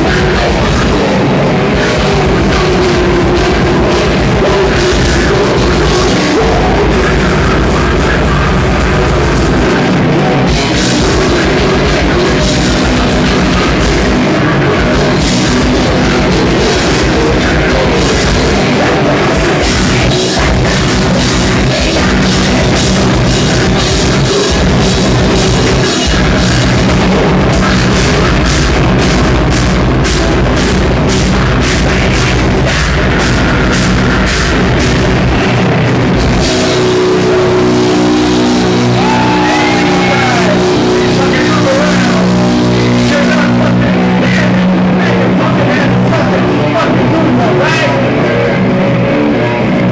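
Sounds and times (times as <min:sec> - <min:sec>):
fast drumming on drum kit: 0:00.0 - 0:48.3
bass guitar: 0:00.0 - 0:49.9
distorted electric guitars: 0:00.0 - 0:49.9.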